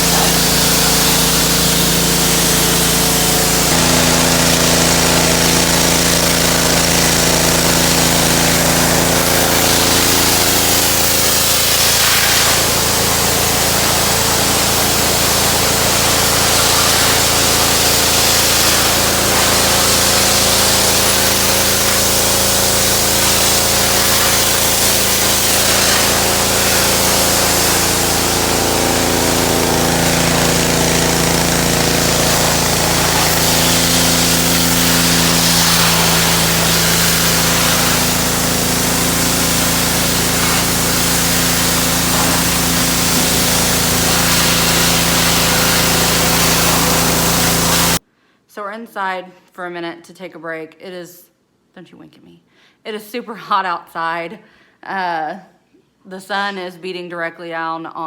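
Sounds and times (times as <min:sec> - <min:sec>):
pressure washer motor humming: 0:00.0 - 0:48.0
water jet spraying: 0:00.0 - 0:48.0.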